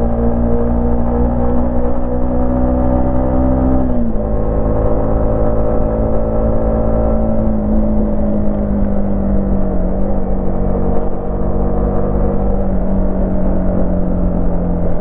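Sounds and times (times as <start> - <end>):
motorcycle engine and exhaust: 0.0 - 15.0.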